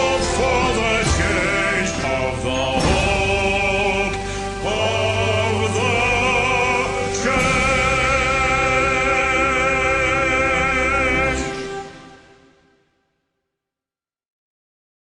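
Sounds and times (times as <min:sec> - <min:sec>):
choral singing with vibrato: 0:00.0 - 0:12.7.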